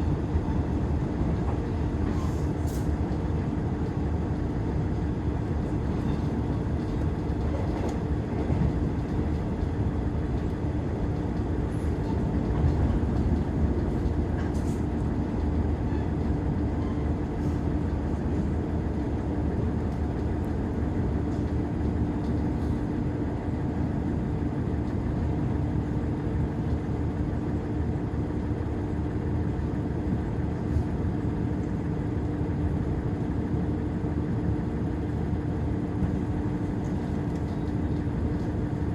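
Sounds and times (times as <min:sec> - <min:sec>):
diesel railcar engine drone: 0:00.0 - 0:38.9.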